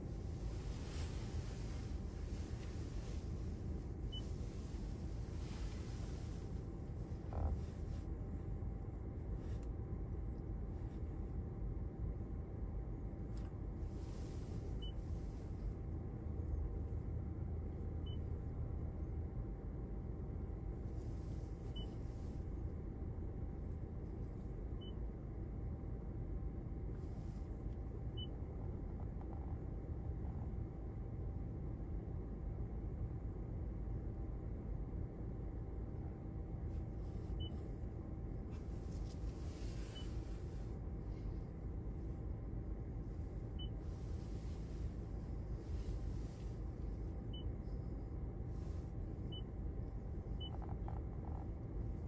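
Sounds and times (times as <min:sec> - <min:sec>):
low cabin rumble: 0:00.0 - 0:52.0.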